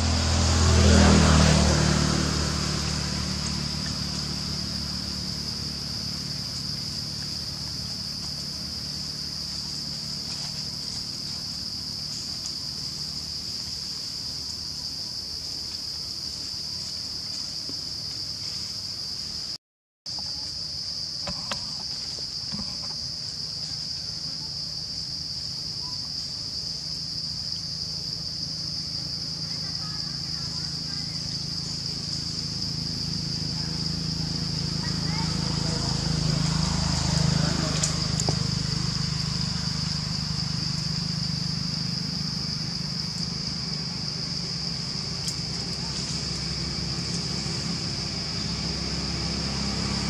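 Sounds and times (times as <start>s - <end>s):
high-pitched insect chorus drone: 0.0s - 50.0s.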